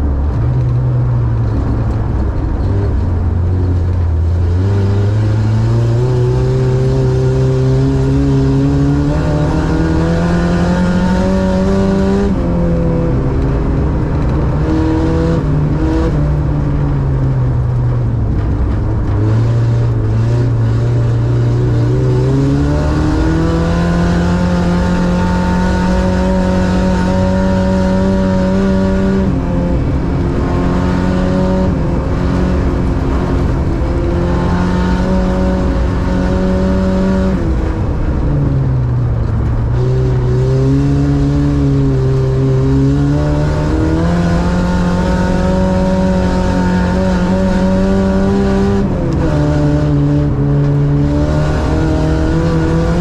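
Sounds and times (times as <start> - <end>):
racing car engine at high revs: 0.0 - 53.0.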